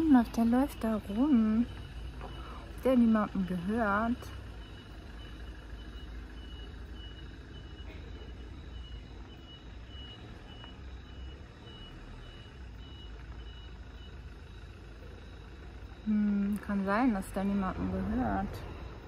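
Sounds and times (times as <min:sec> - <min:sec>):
reversing alarm beeping: 0:00.0 - 0:19.0.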